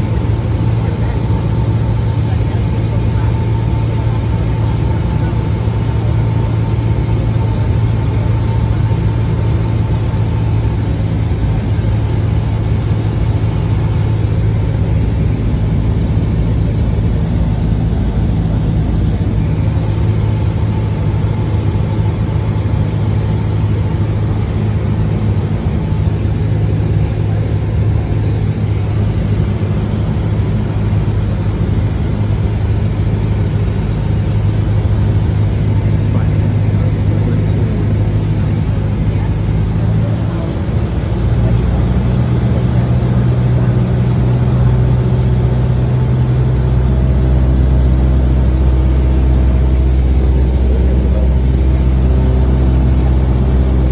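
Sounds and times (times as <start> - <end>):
airplane engine droning in cabin: 0.0 - 53.9.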